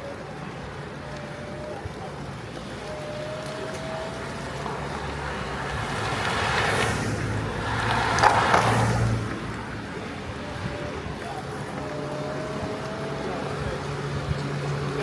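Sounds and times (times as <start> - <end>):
low hum of moving car: 0.0 - 15.0
passing vehicle: 0.0 - 15.0.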